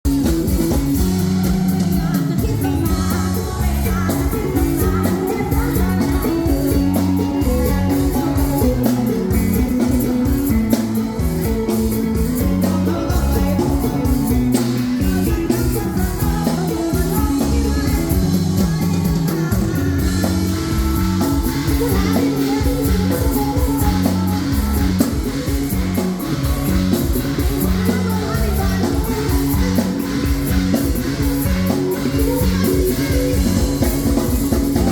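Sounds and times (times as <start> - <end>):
live band music: 0.0 - 34.9
person singing: 0.1 - 34.9.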